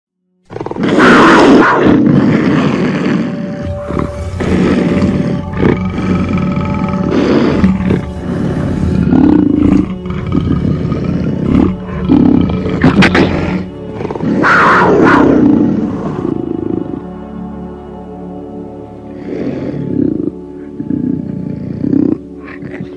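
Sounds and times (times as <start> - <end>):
background music: 0.4 - 22.9
big cat roaring: 0.5 - 17.2, 19.1 - 22.9.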